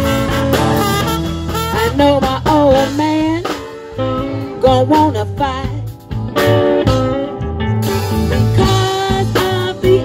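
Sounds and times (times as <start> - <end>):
bass guitar: 0.0 - 10.0
drum kit: 0.0 - 10.0
electric guitar: 0.0 - 10.0.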